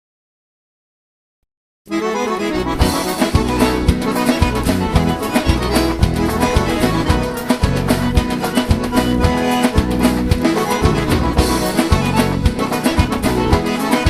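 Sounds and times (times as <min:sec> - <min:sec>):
accordion: 0:01.9 - 0:14.0
fiddle: 0:01.9 - 0:14.0
instrumental dance music: 0:01.9 - 0:14.0.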